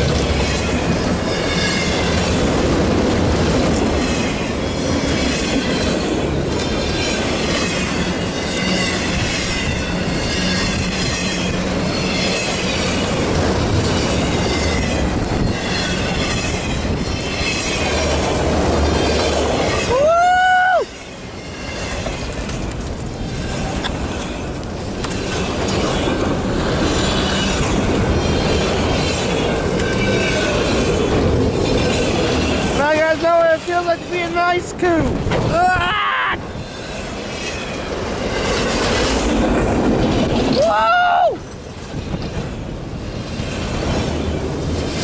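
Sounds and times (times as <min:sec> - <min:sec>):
train wheels clattering on rails: 0:00.0 - 0:45.0.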